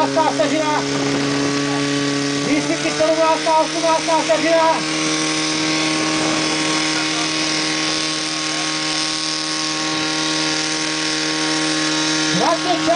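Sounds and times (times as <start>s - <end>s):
pump engine running: 0.0s - 12.9s.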